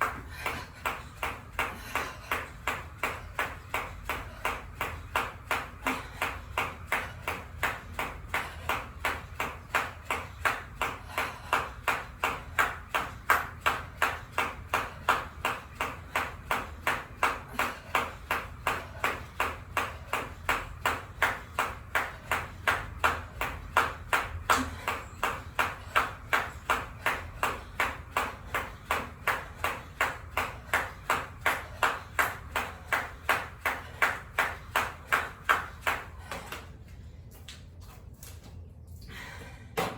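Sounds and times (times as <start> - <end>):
jump rope slapping the floor: 0.0 - 36.8.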